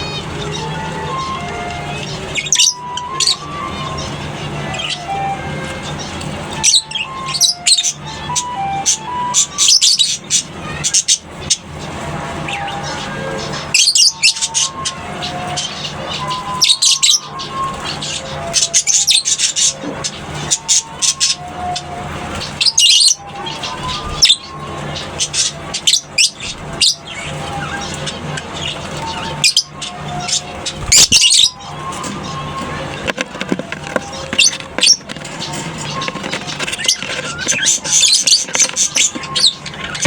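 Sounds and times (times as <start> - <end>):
lovebirds chirping and squawking: 0.0 - 40.0
simple melody background music: 0.0 - 40.0.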